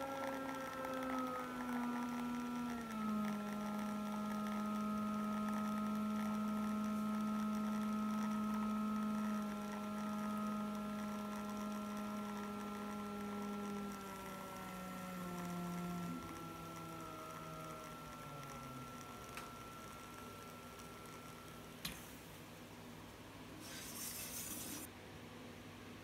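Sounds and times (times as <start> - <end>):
espresso machine pump humming: 0.0 - 24.9.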